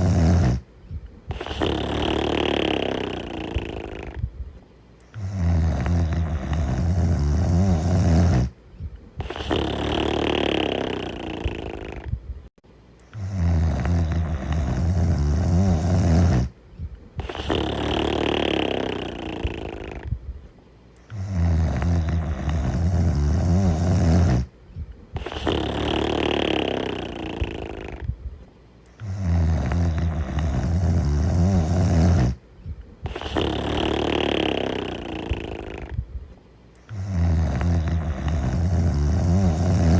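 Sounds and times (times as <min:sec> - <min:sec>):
cartoon snoring: 0:00.0 - 0:00.7, 0:01.3 - 0:04.3, 0:05.1 - 0:08.6, 0:09.2 - 0:12.2, 0:13.1 - 0:16.6, 0:17.2 - 0:20.1, 0:21.1 - 0:24.5, 0:25.2 - 0:28.1, 0:29.0 - 0:32.4, 0:33.0 - 0:36.0, 0:36.8 - 0:39.9.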